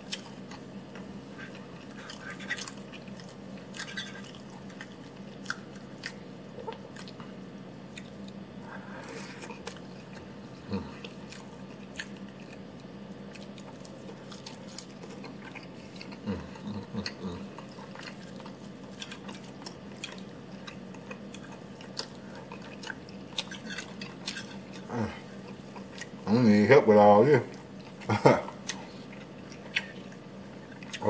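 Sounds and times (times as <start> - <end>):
person chewing: 0.0 - 26.3, 27.5 - 31.0
steady low hum: 0.0 - 31.0.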